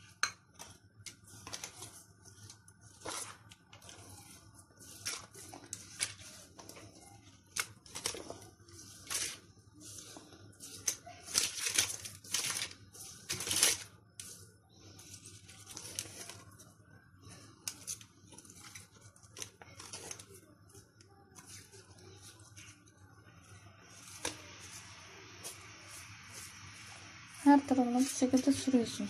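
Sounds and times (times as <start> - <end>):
baking paper rustling: 0.0 - 29.0
pastry brush dabbing dough: 0.0 - 29.0.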